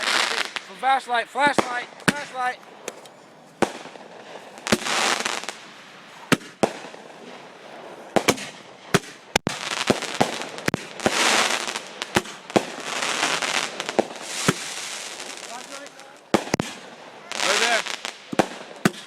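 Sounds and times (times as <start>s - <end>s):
firework bangs: 0.0s - 19.0s
hissing crackling fireworks: 0.0s - 19.0s.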